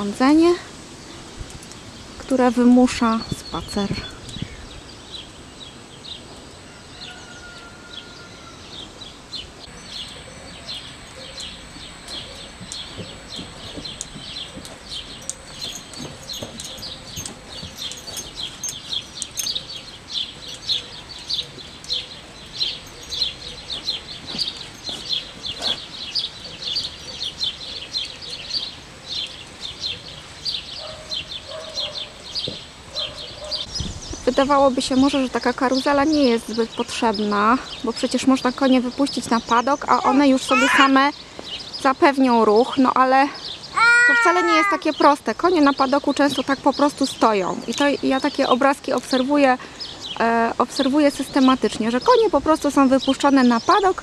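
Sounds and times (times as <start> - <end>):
swallows twittering: 2.0 - 54.0.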